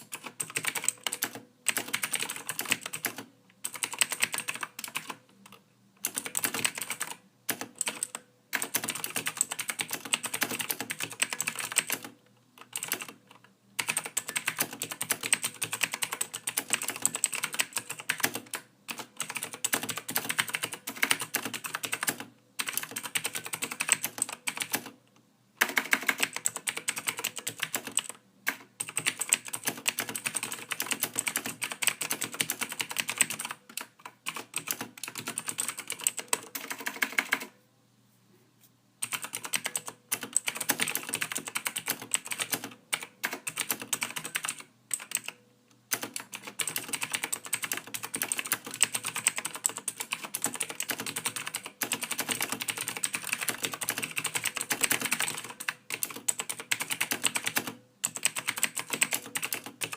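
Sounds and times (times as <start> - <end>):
typing on a computer keyboard: 0.0 - 25.0, 25.6 - 37.6, 39.0 - 59.9.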